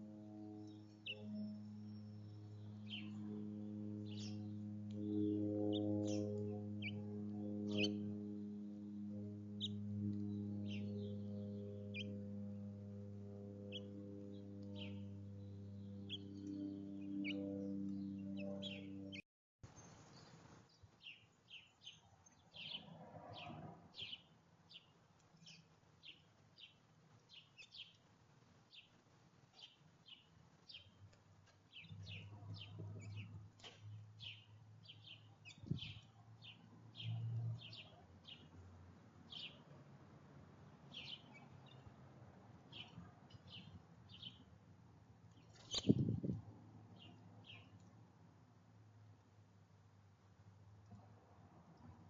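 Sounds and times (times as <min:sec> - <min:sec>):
small birds chirping: 0:00.4 - 0:08.8, 0:09.5 - 0:12.7, 0:13.5 - 0:28.1, 0:28.7 - 0:38.6, 0:39.3 - 0:39.8, 0:40.9 - 0:41.9, 0:42.7 - 0:44.5, 0:45.3 - 0:48.0.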